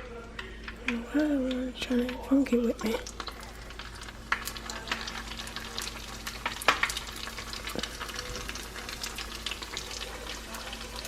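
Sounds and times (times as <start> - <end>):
deep-frying sizzle with pops: 0.0 - 11.0.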